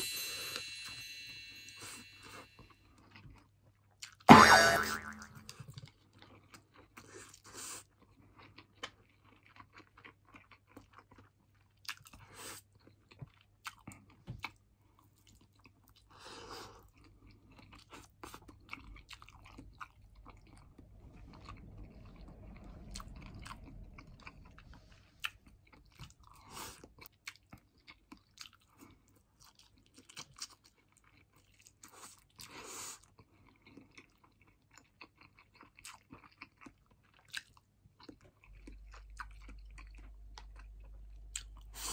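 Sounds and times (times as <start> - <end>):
person chewing and crunching: 4.9 - 41.9.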